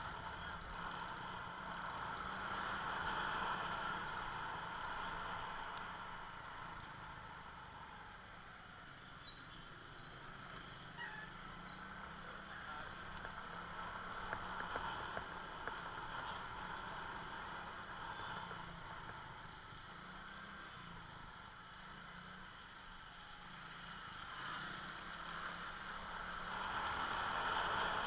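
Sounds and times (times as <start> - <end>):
vehicle running noise: 0.0 - 28.0.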